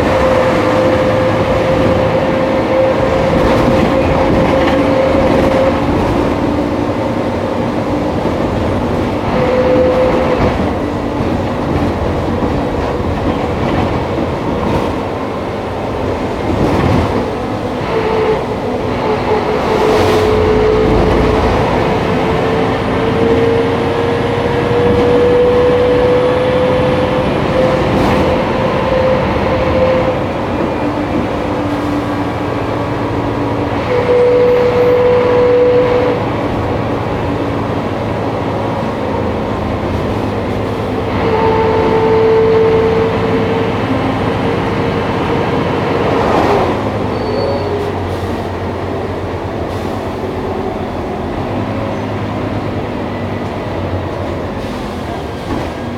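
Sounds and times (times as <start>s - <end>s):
bus diesel engine drone: 0.0s - 55.9s.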